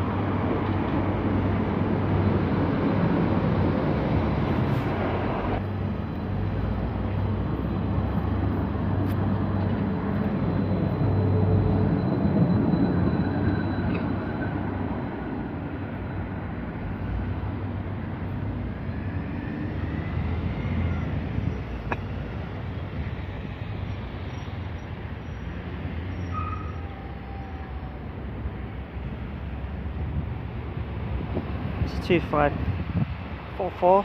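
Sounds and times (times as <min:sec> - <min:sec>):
tram rumbling past: 0:00.0 - 0:34.0.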